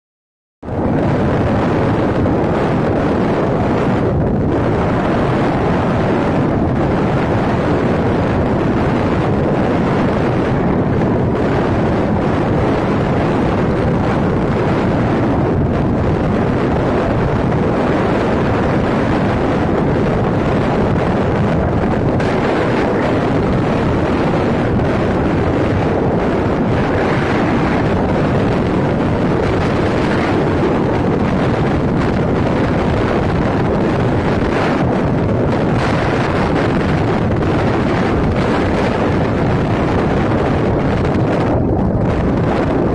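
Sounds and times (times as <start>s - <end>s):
wind roaring over microphone: 0.6s - 42.9s.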